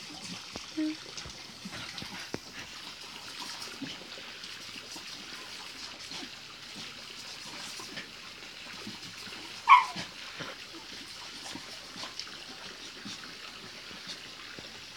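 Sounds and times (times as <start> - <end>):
dog licking and lapping water: 0.0 - 14.9
water splashes: 0.0 - 14.9
water trickling from a tap: 0.0 - 14.9.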